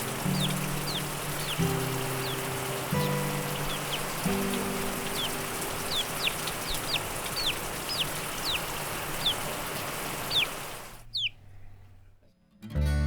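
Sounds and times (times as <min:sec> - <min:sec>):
small bird chirping: 0:00.0 - 0:11.4
background hiss: 0:00.0 - 0:12.1.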